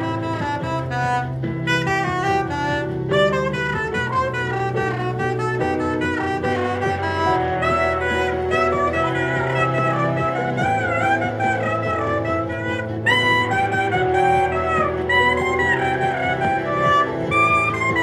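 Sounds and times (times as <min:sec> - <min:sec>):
backing track with bass: 0:00.0 - 0:18.0
soprano saxophone: 0:00.0 - 0:18.0.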